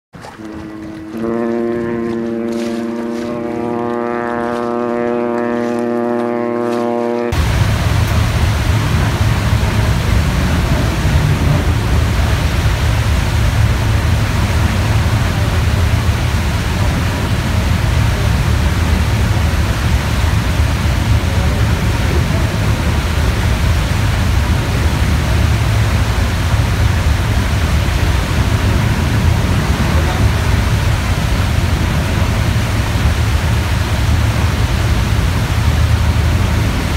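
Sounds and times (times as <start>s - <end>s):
heavy low rumble: 0.2s - 36.9s
ship wake rushing: 0.2s - 36.9s.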